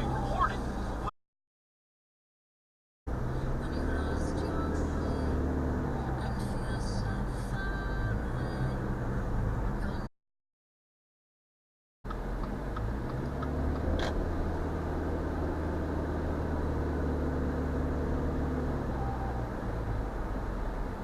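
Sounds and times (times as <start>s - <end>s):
car engine and road drone: 0.0s - 1.1s, 3.1s - 10.1s, 12.1s - 21.0s.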